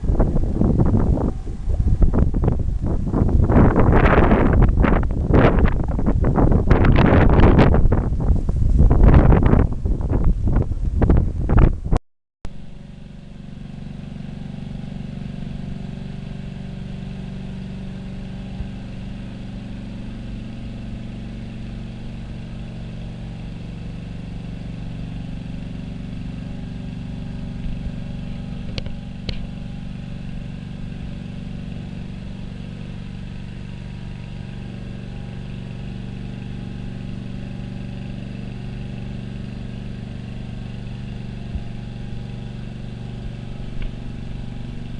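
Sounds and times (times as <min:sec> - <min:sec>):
steady engine drone: 0:00.0 - 0:44.9.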